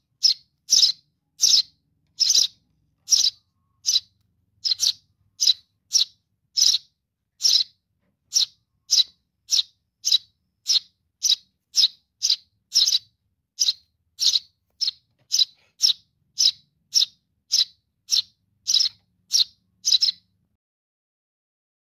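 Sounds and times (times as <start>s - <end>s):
bird chick begging chirps: 0.0s - 20.3s.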